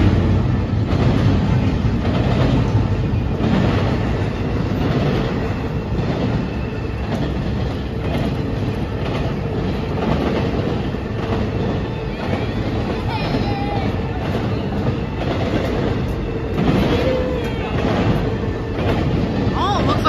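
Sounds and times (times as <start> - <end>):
freight train rumbling: 0.0 - 20.0
wheels clicking over rail joints: 0.0 - 20.0.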